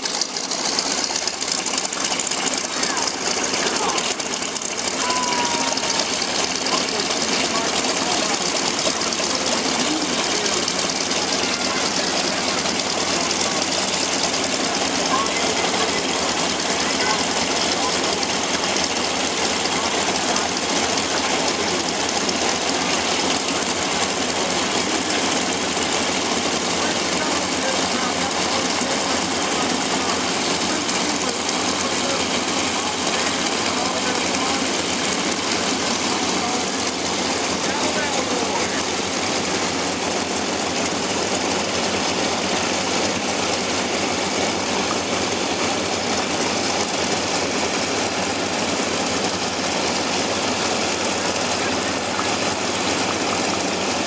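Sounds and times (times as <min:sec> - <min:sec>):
propeller aircraft engine: 0:00.0 - 0:54.0.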